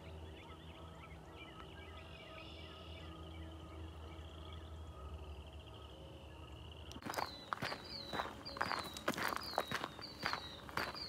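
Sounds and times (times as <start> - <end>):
frogs trilling: 0.0 - 11.0.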